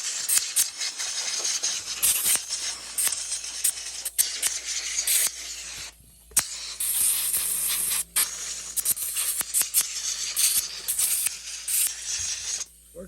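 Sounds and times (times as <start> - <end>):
compressed air hissing: 0.0 - 13.0.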